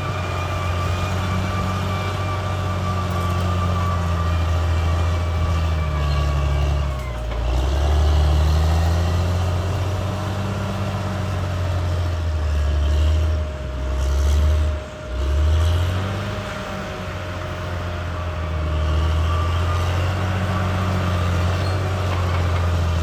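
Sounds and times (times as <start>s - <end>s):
bulldozer diesel engine working: 0.0s - 23.0s.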